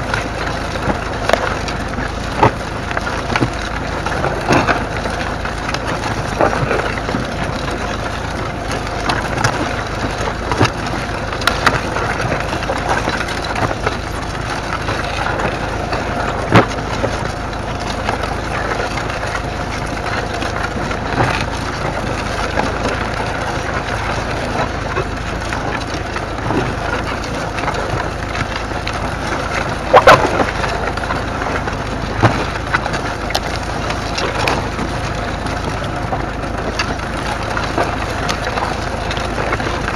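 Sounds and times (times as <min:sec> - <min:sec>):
plough cutting through stubble: 0:00.0 - 0:39.9.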